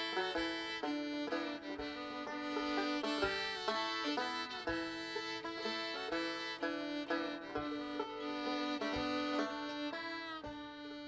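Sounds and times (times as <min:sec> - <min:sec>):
banjo picking: 0:00.0 - 0:11.0
fiddle bowing long notes: 0:00.0 - 0:11.0.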